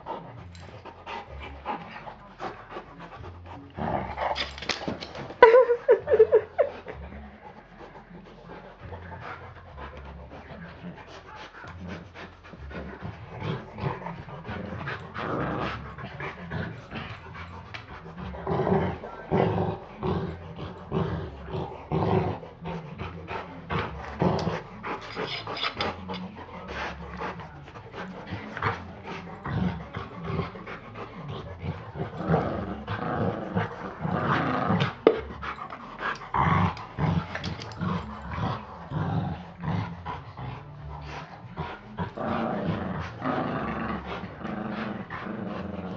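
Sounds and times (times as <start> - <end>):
dogs growling: 0.0 - 45.9
dogs panting: 0.0 - 45.9.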